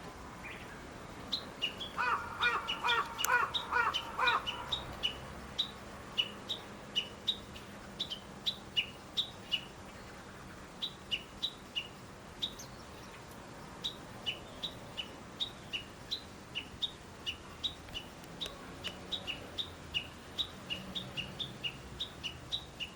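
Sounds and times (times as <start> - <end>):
songbird calling down-slurred notes: 0.4 - 22.9.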